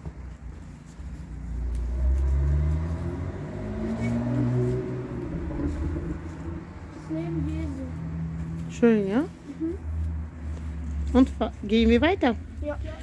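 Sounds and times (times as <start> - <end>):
car driving past: 1.2 - 11.7.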